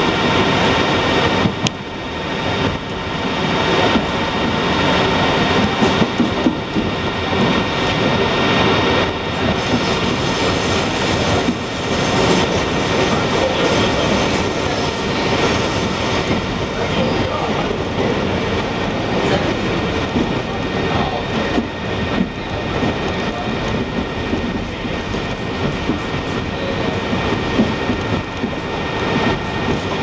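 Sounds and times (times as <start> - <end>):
steel wheels rolling on rail: 0.0 - 30.0.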